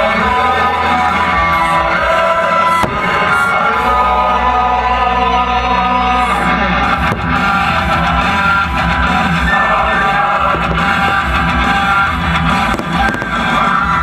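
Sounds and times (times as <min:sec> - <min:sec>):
guitar: 0:00.0 - 0:14.0
person singing: 0:00.0 - 0:14.0.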